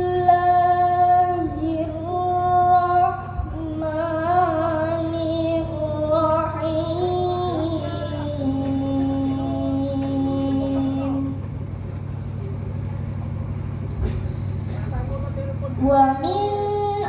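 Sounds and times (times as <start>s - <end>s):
child chanting recitation: 0.0s - 11.6s, 14.0s - 17.0s
low hum: 0.0s - 17.0s.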